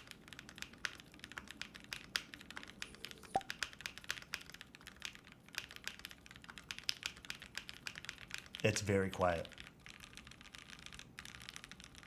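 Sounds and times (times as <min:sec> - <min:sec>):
quiet mechanical keyboard typing: 0:00.0 - 0:12.0.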